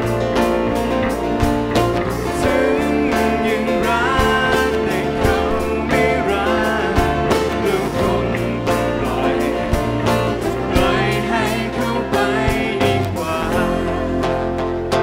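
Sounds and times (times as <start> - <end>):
acoustic guitar: 0.0 - 15.0
drums: 0.0 - 15.0
keyboard: 0.0 - 15.0
man singing: 2.2 - 15.0.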